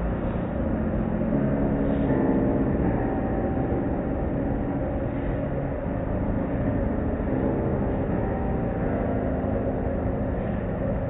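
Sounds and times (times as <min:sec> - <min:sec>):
car wash machinery rumbling: 0:00.0 - 0:11.0
humming tones: 0:00.0 - 0:11.0.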